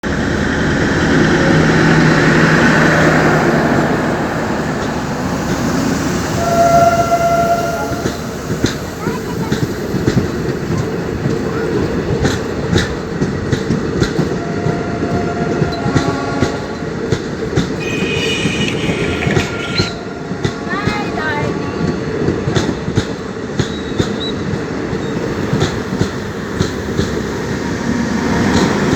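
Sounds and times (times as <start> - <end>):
train wheels rumbling on rails: 0.0 - 28.9.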